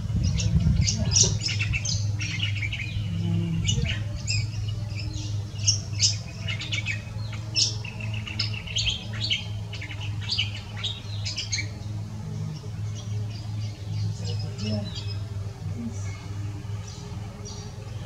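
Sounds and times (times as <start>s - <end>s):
birds chirping and twittering: 0.0s - 18.0s
steady low hum: 0.0s - 18.0s.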